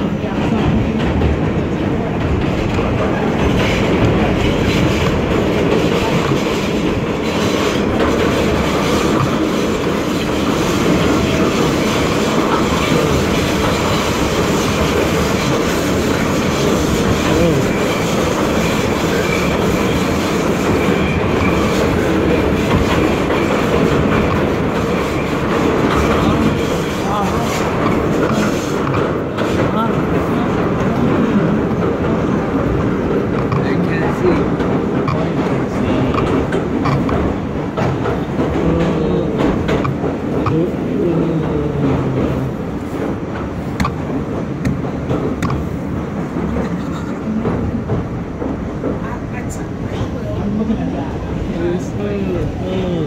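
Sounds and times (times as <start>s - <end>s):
subway train rumbling in tunnel: 0.0s - 53.0s.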